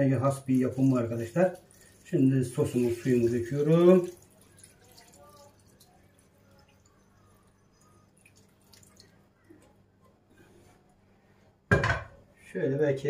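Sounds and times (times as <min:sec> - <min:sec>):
faint sauce drips: 0:00.2 - 0:10.8.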